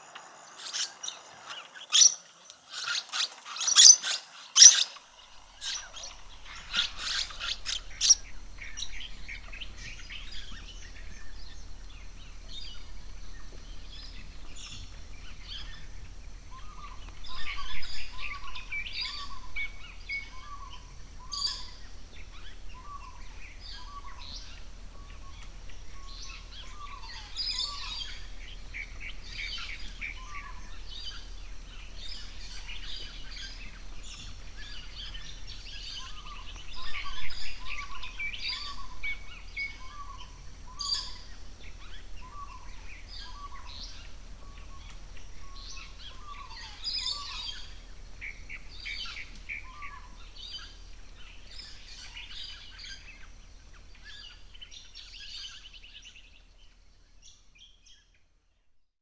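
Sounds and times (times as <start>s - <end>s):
birds chirping and calling: 0.0s - 58.1s
steady low hum: 5.0s - 58.6s.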